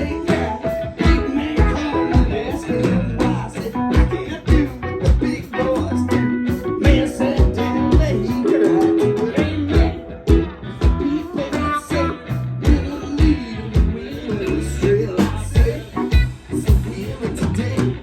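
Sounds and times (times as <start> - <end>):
band playing calypso song: 0.0 - 18.0.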